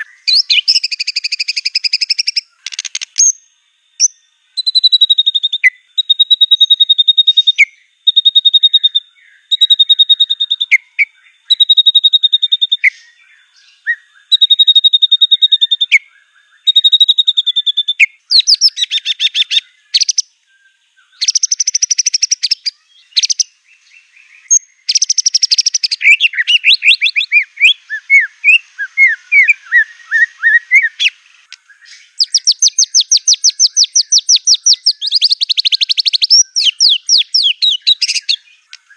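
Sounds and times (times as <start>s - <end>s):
songbird whistling and trilling: 0.0s - 3.4s, 4.0s - 38.9s.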